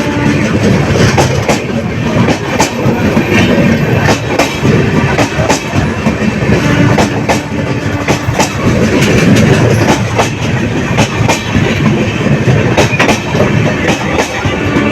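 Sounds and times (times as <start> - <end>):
train wheels clattering over rail joints: 0.0 - 14.9.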